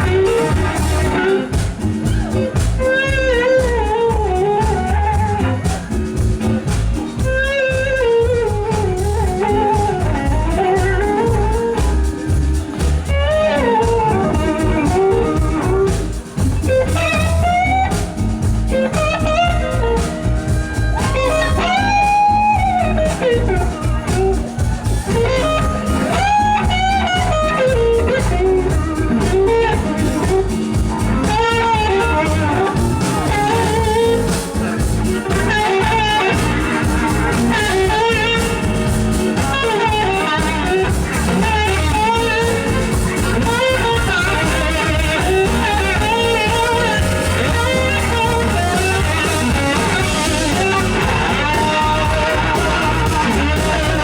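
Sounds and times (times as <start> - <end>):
blues-rock band playing live: 0.0 - 54.0
electric guitar: 0.0 - 54.0.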